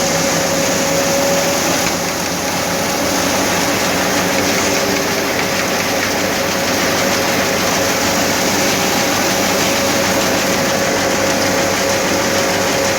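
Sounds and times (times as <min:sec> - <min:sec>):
machine whine: 0:00.0 - 0:12.9
thresher machine running: 0:00.0 - 0:12.9.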